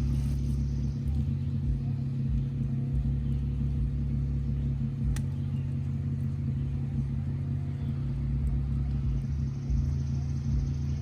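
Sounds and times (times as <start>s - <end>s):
car engine drone: 0.0s - 11.0s.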